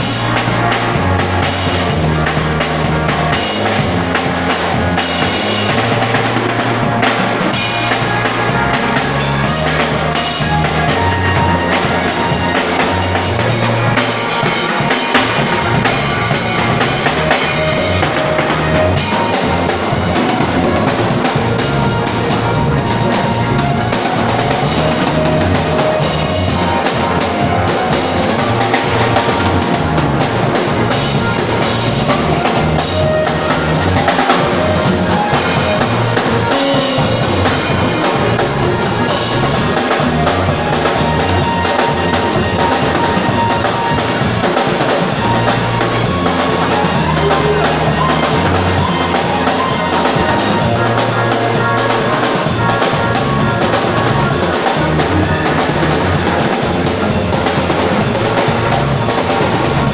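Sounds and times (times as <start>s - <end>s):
bass line: 0.0s - 59.9s
drum kit groove: 0.0s - 59.9s.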